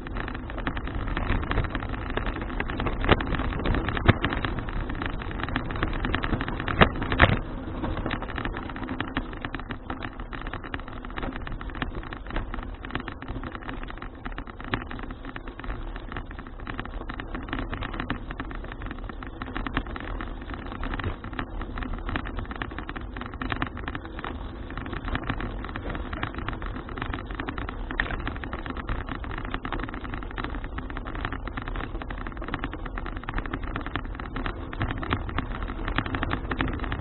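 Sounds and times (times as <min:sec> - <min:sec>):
bicycle rattling and clicking: 0:00.0 - 0:37.0
bicycle tyre and wind rumble: 0:00.0 - 0:37.0.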